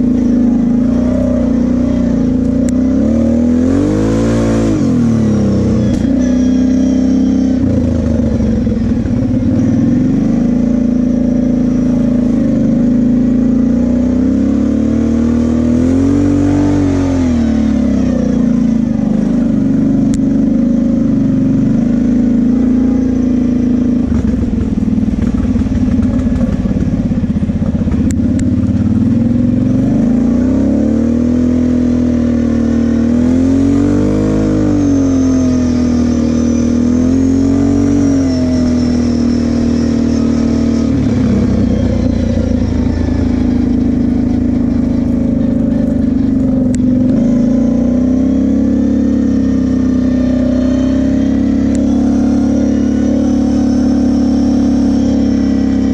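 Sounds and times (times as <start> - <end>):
quad bike engine running: 0.0 - 55.9.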